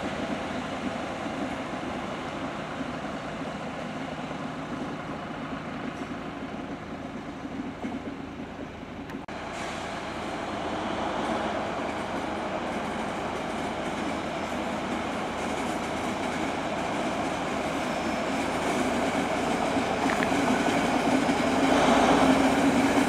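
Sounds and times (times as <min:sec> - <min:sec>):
diesel locomotive running: 0:00.0 - 0:23.0
freight train rolling on rails: 0:00.0 - 0:23.0.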